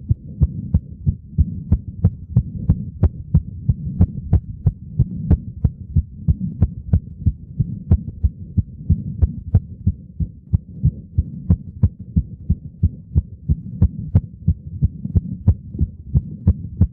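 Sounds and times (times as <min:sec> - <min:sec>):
heart beating fast: 0:00.0 - 0:16.9
steady low rumble: 0:00.0 - 0:16.9.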